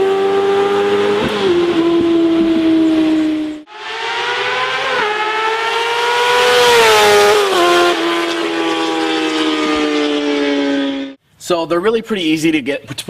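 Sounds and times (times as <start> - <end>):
motorcycle engine at high revs: 0.0 - 11.2.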